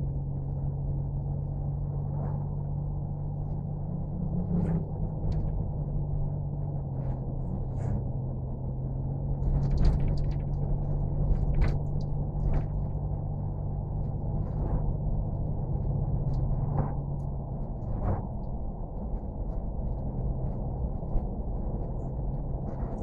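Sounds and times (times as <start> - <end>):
low mechanical drone: 0.0 - 23.0.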